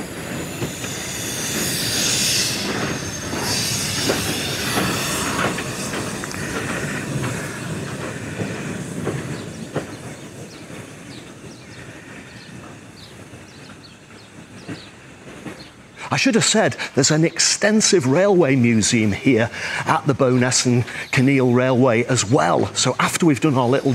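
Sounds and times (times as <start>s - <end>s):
steam hissing: 0.0s - 23.9s
wheels clicking over rail joints: 0.0s - 23.9s.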